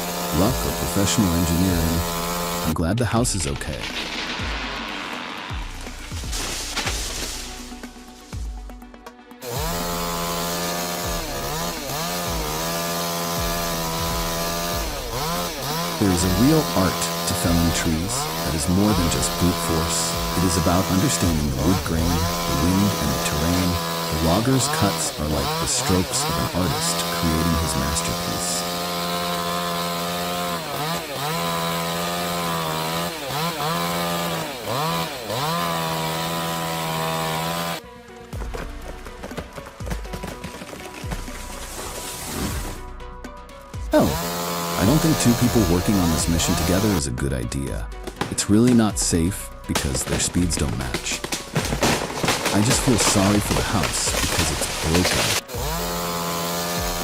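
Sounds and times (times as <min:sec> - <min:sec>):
chainsaw running at high revs: 0:00.0 - 0:04.9, 0:05.5 - 0:08.8, 0:09.4 - 0:37.8, 0:38.4 - 0:43.0, 0:43.8 - 0:47.2, 0:47.9 - 0:57.0.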